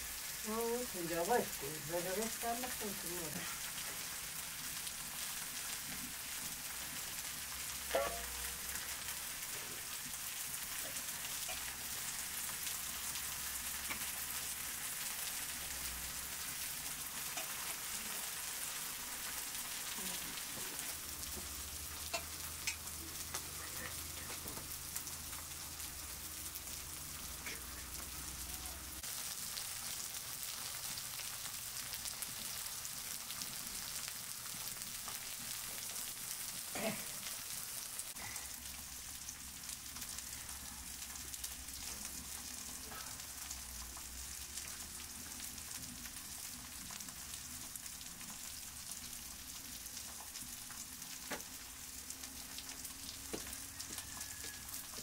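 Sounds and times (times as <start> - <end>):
food sizzling on a griddle: 0.0 - 55.0.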